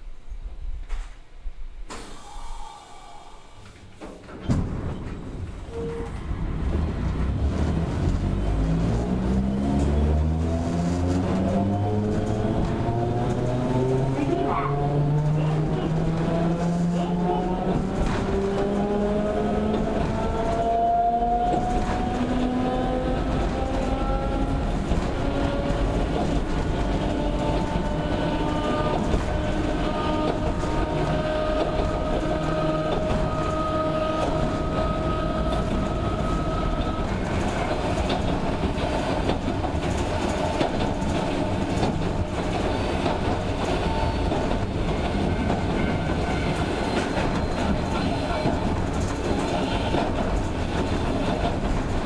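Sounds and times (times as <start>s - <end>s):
train wheels on track: 1.9s - 52.0s.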